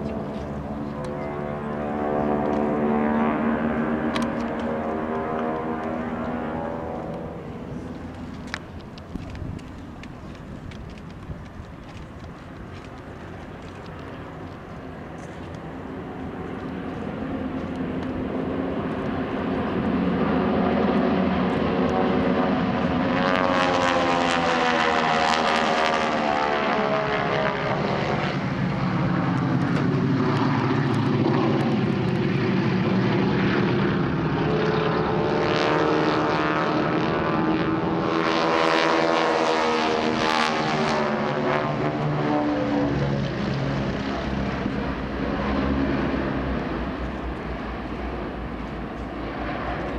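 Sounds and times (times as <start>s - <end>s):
propeller planes droning overhead: 0.0s - 49.9s.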